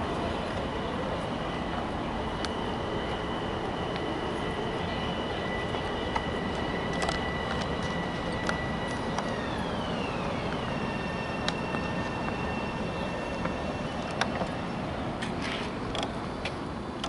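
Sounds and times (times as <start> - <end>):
high electric whine: 0.0 - 15.2
train rumble: 0.0 - 17.0.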